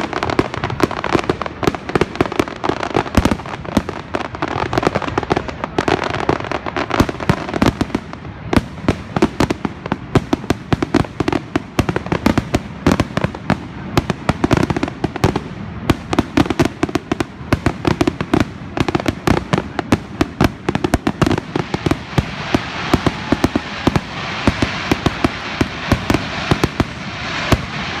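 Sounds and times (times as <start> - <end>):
fireworks bangs: 0.0 - 28.0
fireworks crackle: 0.0 - 28.0.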